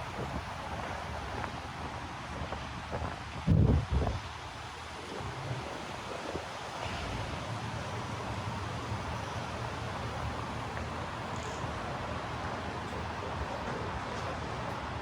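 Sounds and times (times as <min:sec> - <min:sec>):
street noise: 0:00.0 - 0:15.0
traffic engine rumble: 0:00.0 - 0:15.0.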